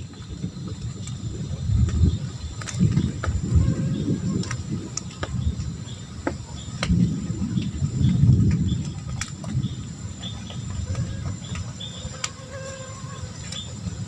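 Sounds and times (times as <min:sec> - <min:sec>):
crickets chirping: 0:00.0 - 0:14.0
low uneven rumble: 0:00.0 - 0:14.0.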